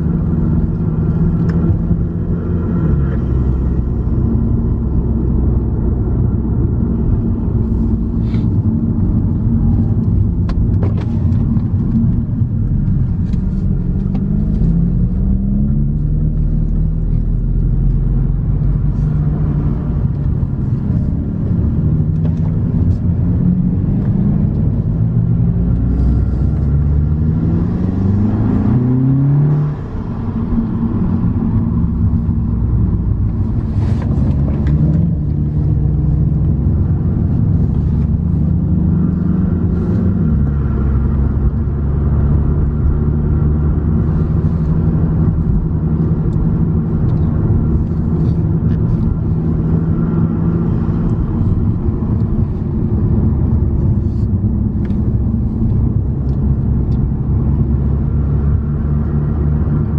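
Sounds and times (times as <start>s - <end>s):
car engine revving: 0.0s - 59.9s
road rumble: 0.0s - 59.9s.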